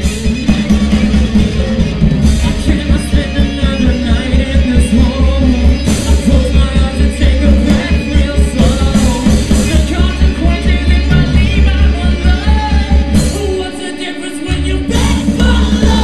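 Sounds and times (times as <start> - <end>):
live rock band playing: 0.0 - 16.0
person singing: 1.1 - 16.0.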